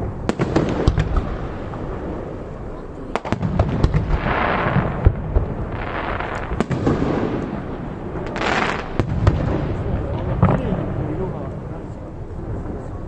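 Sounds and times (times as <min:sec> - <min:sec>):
fireworks booming: 0:00.0 - 0:13.0
fireworks hissing crackle: 0:00.0 - 0:13.0
sharp fireworks bangs: 0:00.0 - 0:13.0.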